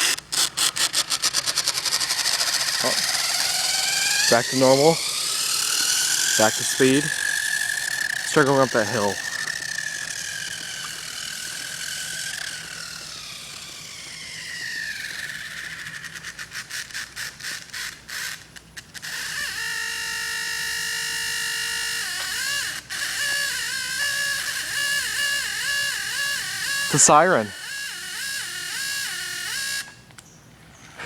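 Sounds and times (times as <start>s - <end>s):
toy car motor whining: 0.0s - 30.1s
electronic siren wail: 2.0s - 16.1s, 19.1s - 29.9s.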